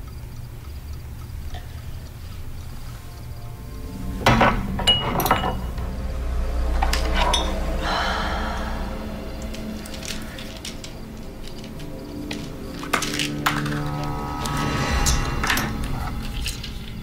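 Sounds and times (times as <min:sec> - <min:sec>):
soft background music: 0:00.2 - 0:17.0.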